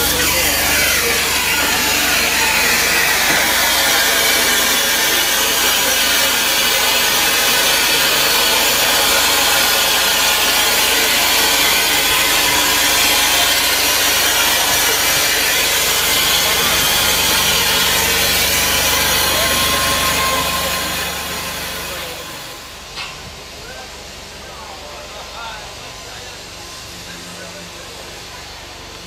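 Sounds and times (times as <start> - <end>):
steam locomotive machinery noise: 0.0 - 29.0.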